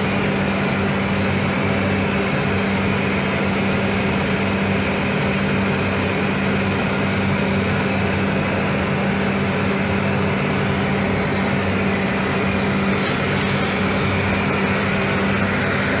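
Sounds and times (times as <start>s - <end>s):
ventilation fans rushing air: 0.0s - 16.0s.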